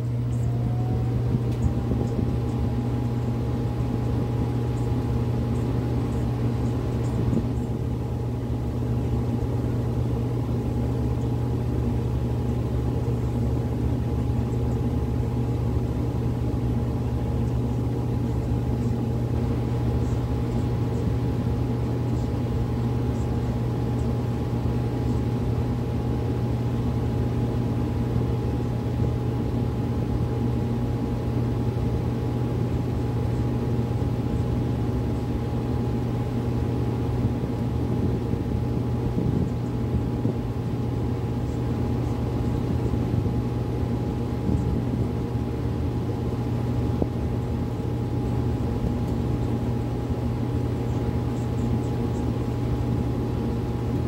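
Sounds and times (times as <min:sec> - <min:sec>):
furnace blower whir: 0:00.0 - 0:54.0
low electrical hum: 0:00.0 - 0:54.0
thin steady whine: 0:00.0 - 0:54.0.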